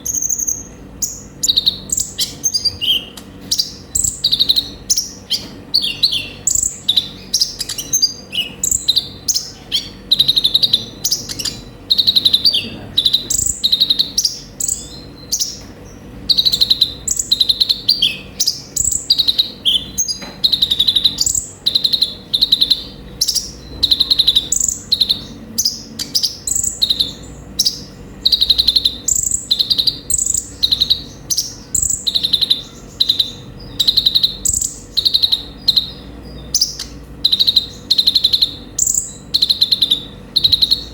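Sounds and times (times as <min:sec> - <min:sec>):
sunbird chirping: 0:00.0 - 0:40.9.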